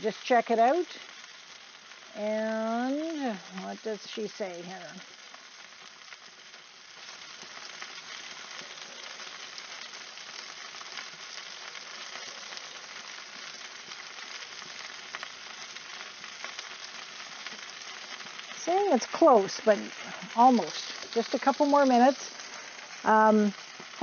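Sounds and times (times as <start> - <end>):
meat sizzling on a grill: 0.0 - 24.0.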